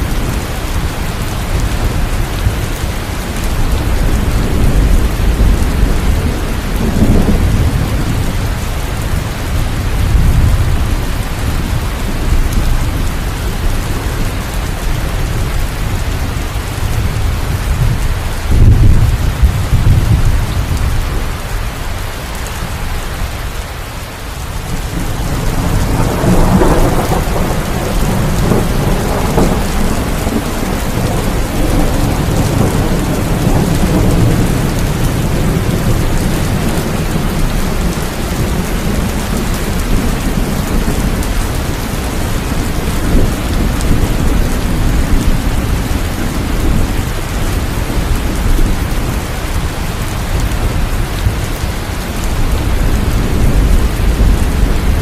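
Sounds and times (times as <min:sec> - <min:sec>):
rolling thunder: 0:00.0 - 0:21.4, 0:24.6 - 0:55.0
steady rain: 0:00.0 - 0:55.0.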